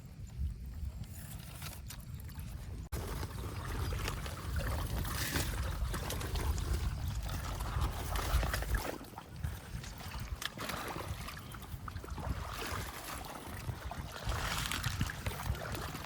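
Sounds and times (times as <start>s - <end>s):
low rumble on microphone: 0.0s - 16.0s
water sloshing and splashing: 0.1s - 16.0s.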